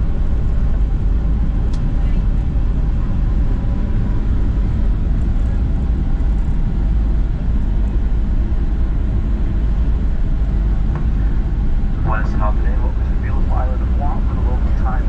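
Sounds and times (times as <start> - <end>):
airplane cabin low rumble: 0.0 - 15.0.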